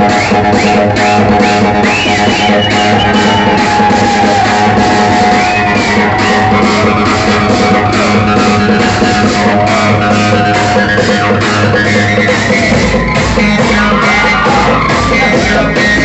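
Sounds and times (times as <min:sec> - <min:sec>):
loud music with steady beat: 0:00.0 - 0:16.0
sliding held melody line: 0:00.0 - 0:16.0.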